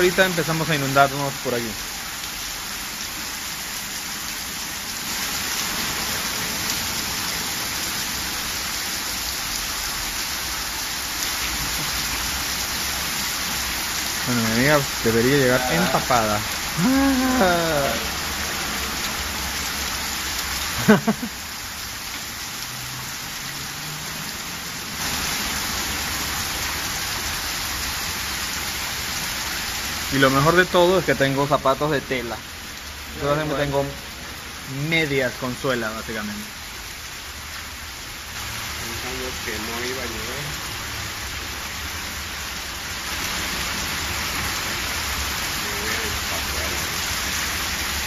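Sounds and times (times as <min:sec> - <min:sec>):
heavy rain splashing on water: 0:00.0 - 0:48.0.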